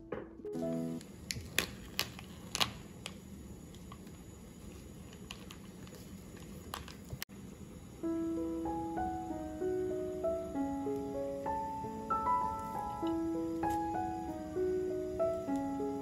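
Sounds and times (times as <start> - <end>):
room tone: 0.0 - 16.0.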